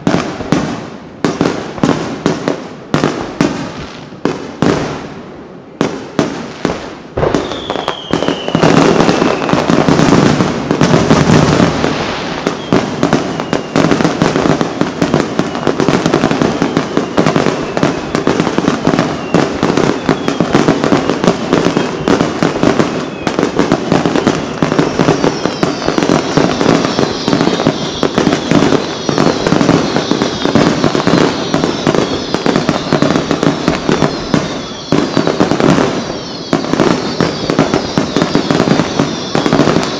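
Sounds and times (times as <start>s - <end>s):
falling firework whistles: 5.9s - 39.9s.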